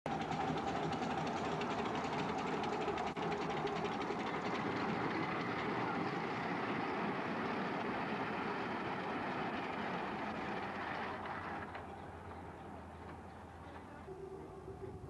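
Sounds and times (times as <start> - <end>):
miniature steam locomotive passing: 0.1 - 15.0.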